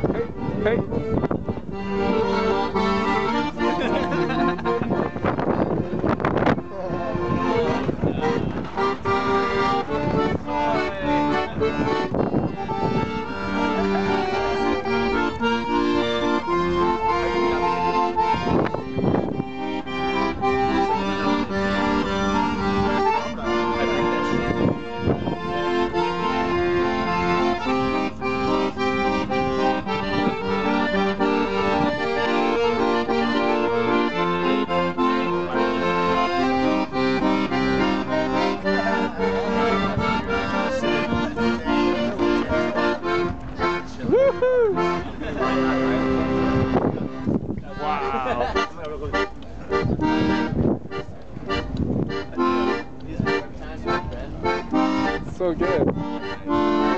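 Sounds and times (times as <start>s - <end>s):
accordion playing lively tune: 0.0s - 56.9s.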